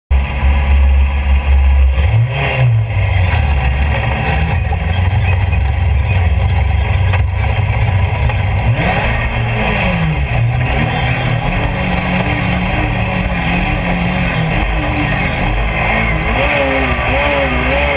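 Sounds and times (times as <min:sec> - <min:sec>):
motorcycle engine revving: 0:00.2 - 0:17.9.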